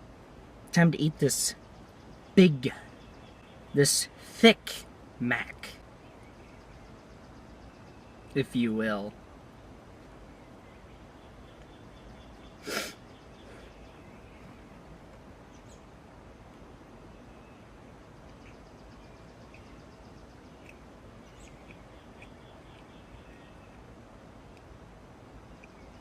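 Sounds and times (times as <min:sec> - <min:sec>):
faint bird chirps: 0:00.8 - 0:09.2, 0:10.2 - 0:16.0, 0:16.9 - 0:24.0, 0:25.5 - 0:26.0.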